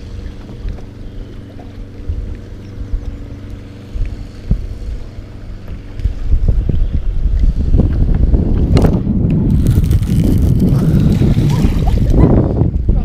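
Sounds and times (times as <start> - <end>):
boat motor humming: 0.0 - 13.0
wind rumble on microphone: 0.0 - 13.0.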